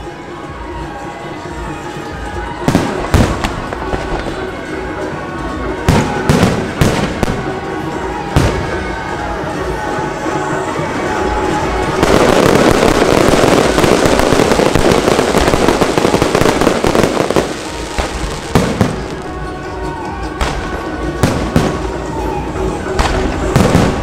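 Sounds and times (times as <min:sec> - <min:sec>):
fireworks crackling and banging: 0:00.4 - 0:24.0.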